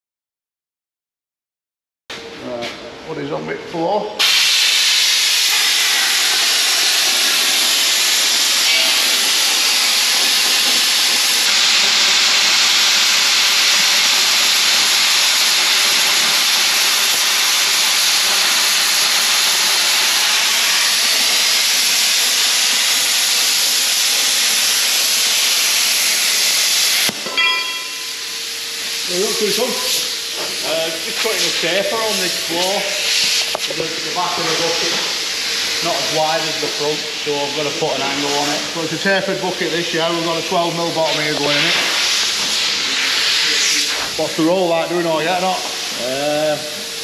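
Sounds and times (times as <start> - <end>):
cutting torch hissing: 4.1 - 47.0.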